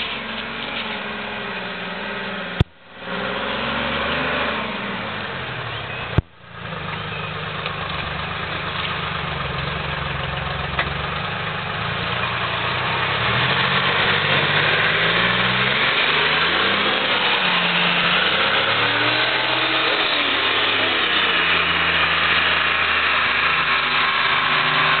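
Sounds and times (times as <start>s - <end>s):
diesel engine working under load: 0.0s - 25.0s.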